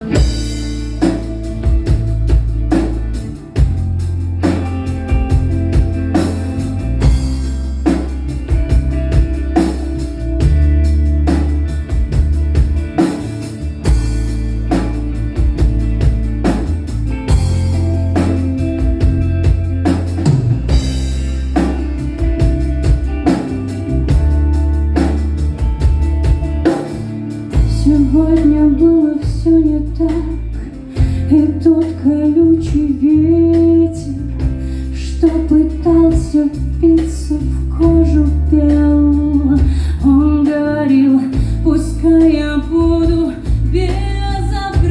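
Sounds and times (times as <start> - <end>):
live band playing: 0.0 - 44.9.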